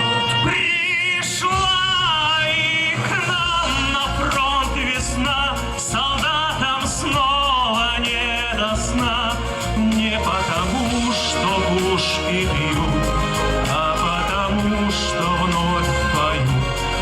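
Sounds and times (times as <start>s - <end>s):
slow live song with vibrato melody: 0.0s - 17.0s.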